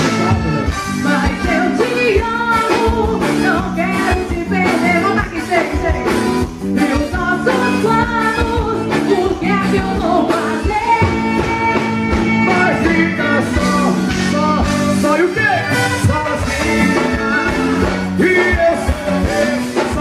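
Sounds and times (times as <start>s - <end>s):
live band music: 0.0s - 20.0s.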